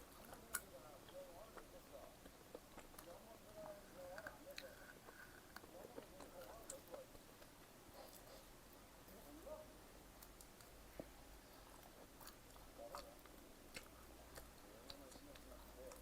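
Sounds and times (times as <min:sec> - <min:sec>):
faint chewing: 0:00.0 - 0:09.5, 0:10.1 - 0:16.0.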